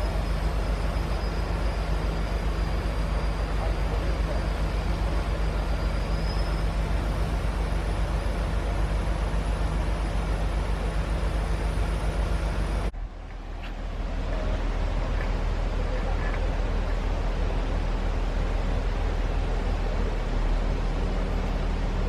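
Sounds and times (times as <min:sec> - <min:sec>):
large diesel engine droning: 0:00.0 - 0:22.0.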